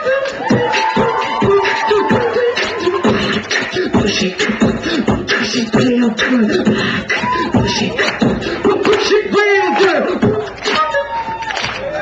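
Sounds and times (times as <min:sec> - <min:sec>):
beatboxing percussion hits: 0:00.0 - 0:11.0
hummed bending vocal tones: 0:00.0 - 0:11.2.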